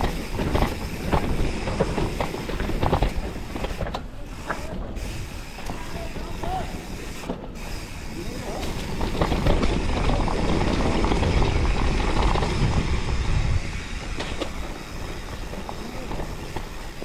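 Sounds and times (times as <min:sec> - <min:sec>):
bike rattling: 0:00.0 - 0:17.0
bike tyres on wet trail: 0:00.0 - 0:17.0.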